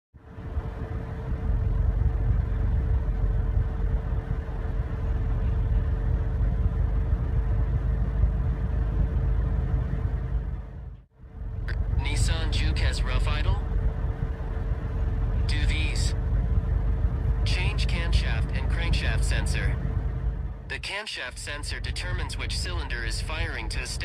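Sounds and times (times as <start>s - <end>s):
car engine idling: 0.2s - 24.0s.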